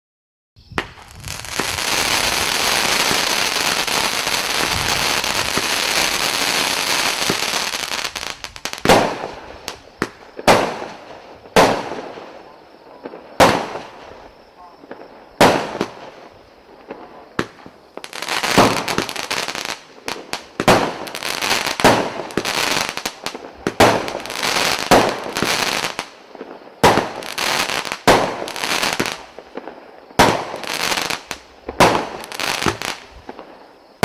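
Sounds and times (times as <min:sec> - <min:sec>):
firework shots bursting: 0:00.8 - 0:12.4, 0:13.0 - 0:14.2, 0:14.9 - 0:33.5.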